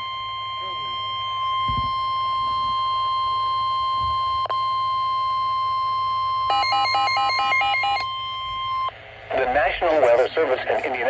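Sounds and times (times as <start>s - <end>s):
steady electronic alarm tone: 0.0s - 9.8s
rapid multi-tone beeping: 0.0s - 10.0s.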